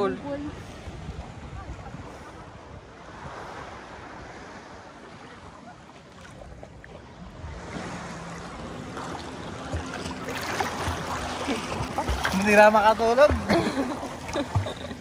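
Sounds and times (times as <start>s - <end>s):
sea waves washing: 0.0s - 15.0s.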